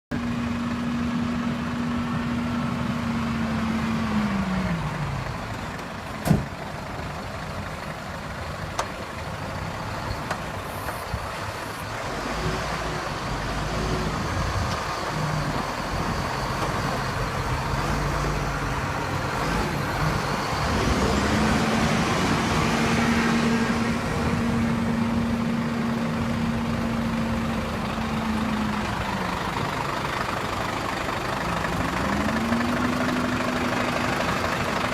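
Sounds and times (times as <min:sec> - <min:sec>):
truck diesel engine revving: 0:00.1 - 0:34.9.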